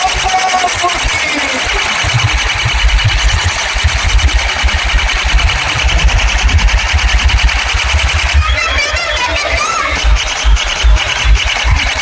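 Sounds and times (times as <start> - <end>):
loud fast bass pulses: 0.0 - 12.0.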